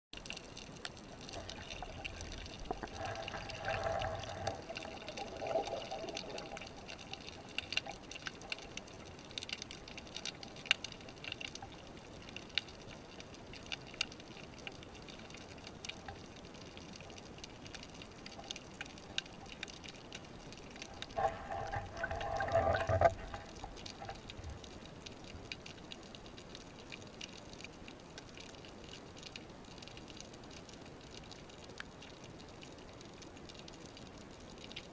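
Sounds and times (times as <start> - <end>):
crackle of tiny clicks underwater: 0.2 - 34.9
water noise: 0.2 - 34.9.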